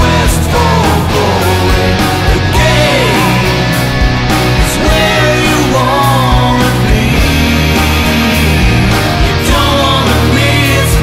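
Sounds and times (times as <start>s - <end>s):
guitar: 0.0s - 11.0s
person singing: 0.0s - 11.0s.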